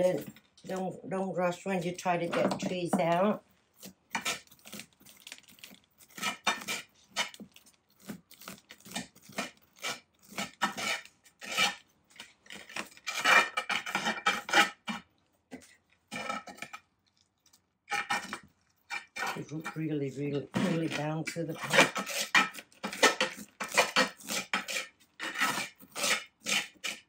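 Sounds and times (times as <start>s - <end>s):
tool scraping inside a pot: 1.7s - 16.9s, 17.9s - 27.0s.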